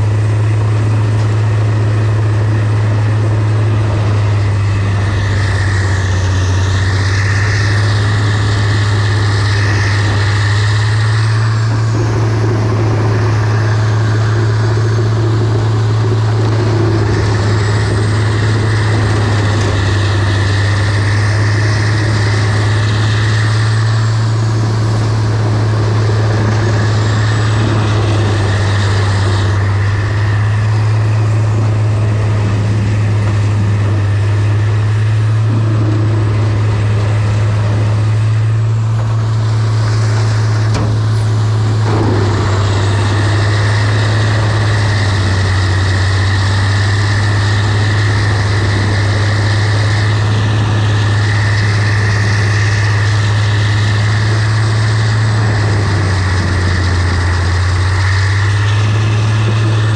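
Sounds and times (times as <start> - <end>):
truck diesel engine droning: 0.0 - 59.9.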